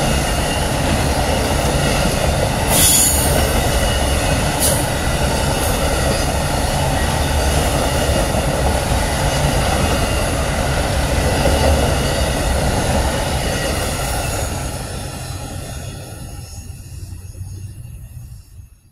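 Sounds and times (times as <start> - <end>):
steel train wheels rumbling on rail: 0.0 - 18.9.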